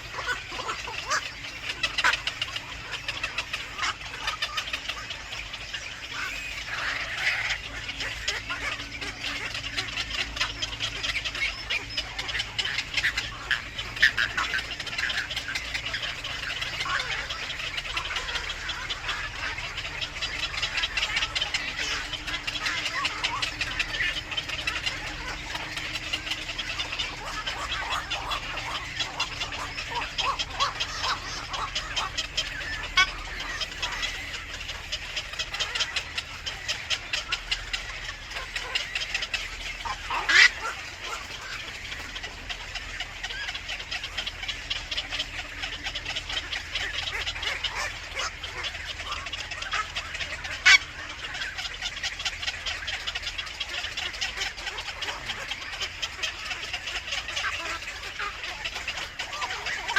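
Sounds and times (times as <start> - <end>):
baby birds chirping: 0.0 - 59.9.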